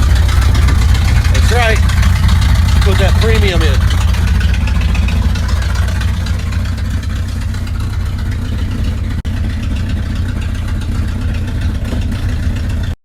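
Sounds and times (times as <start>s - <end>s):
pickup engine rumbling: 0.0s - 13.0s.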